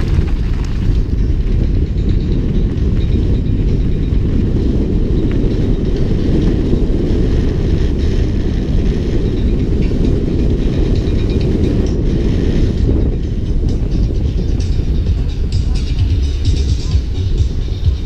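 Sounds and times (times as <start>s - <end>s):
bike ticks and rattles: 0.0s - 18.0s
wind buffeting microphone: 0.0s - 18.0s.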